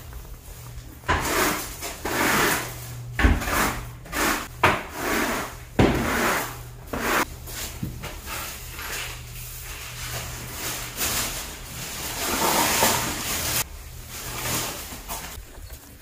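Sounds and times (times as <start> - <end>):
broom sweeping concrete floor: 0.0 - 15.4.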